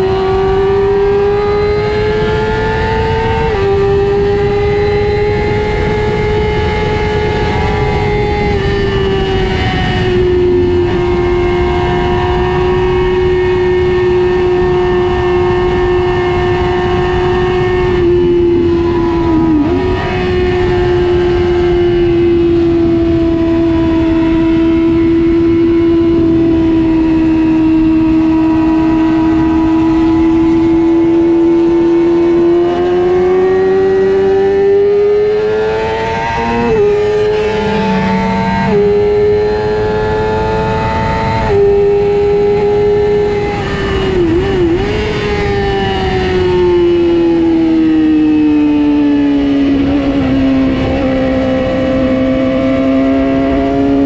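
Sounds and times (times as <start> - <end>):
heavy wind rush: 0.0 - 54.0
motorcycle engine at high revs: 0.0 - 54.0.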